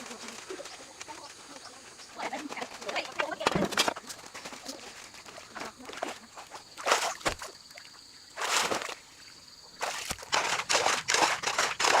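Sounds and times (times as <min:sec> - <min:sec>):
water splashing and sloshing: 0:02.2 - 0:12.0.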